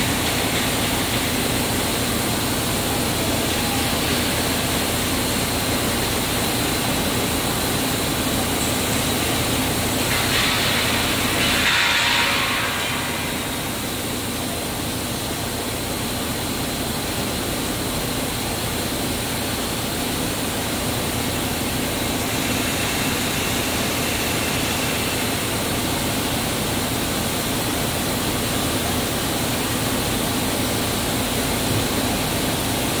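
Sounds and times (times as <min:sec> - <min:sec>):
dough machines running: 0:00.0 - 0:33.0.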